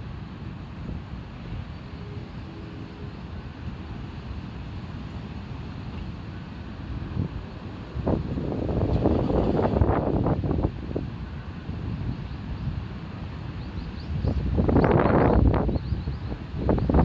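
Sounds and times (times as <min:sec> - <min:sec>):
rough surf: 0:00.0 - 0:17.0
strong wind buffeting microphone: 0:00.0 - 0:17.0.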